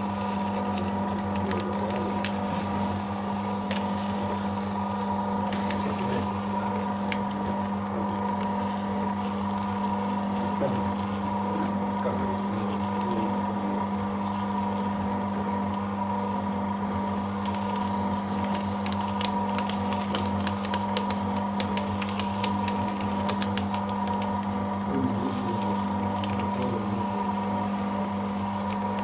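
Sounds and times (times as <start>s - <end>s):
paper shredder motor humming: 0.0s - 29.0s.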